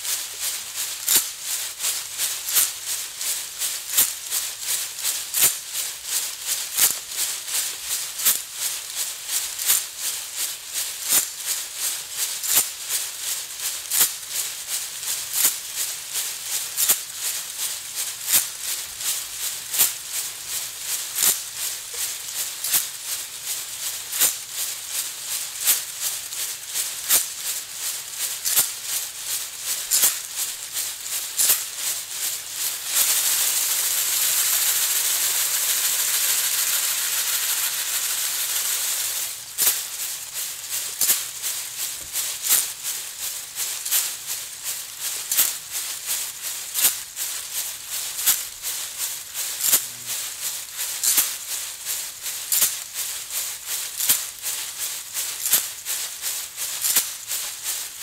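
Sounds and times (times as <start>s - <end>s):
hand rattle shaken: 0.0s - 58.0s.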